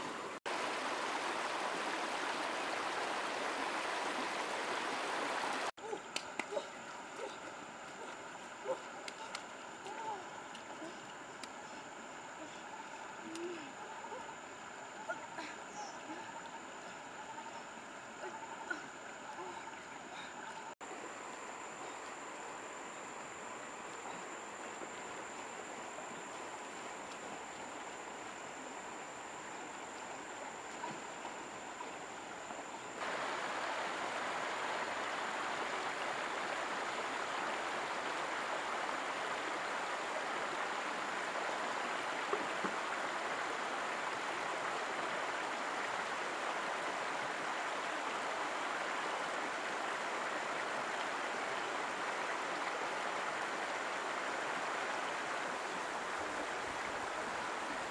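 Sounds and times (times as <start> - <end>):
river running over stones: 0.0 - 13.2, 16.4 - 57.9.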